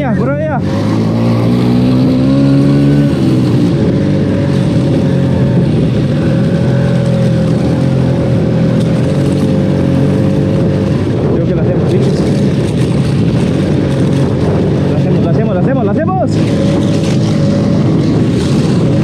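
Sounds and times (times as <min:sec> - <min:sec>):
scooter engine accelerating: 0:00.0 - 0:15.3, 0:16.1 - 0:19.0.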